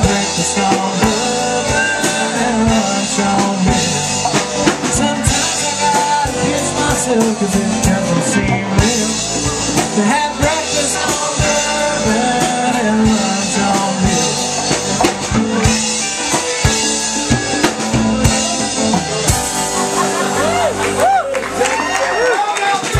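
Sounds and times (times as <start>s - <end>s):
bass guitar: 0.0s - 22.9s
drum kit beat: 0.0s - 22.9s
electric guitars: 0.0s - 22.9s.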